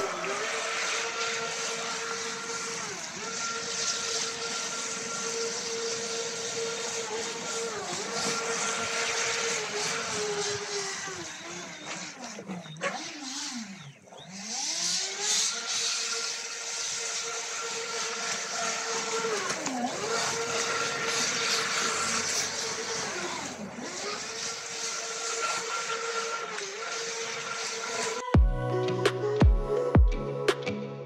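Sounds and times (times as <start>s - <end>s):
water rushing off hull: 0.0s - 28.2s
electric motor whining: 0.0s - 30.6s.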